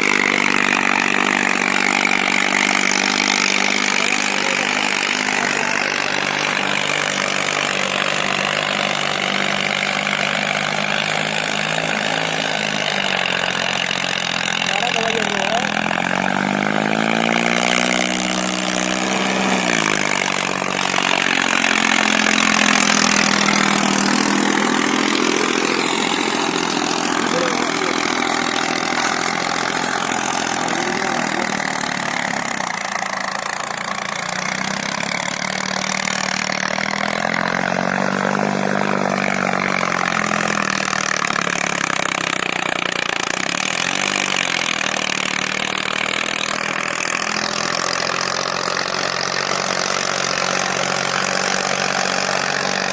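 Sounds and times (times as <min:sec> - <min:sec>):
diesel tractor engine under load: 0:00.0 - 0:52.9.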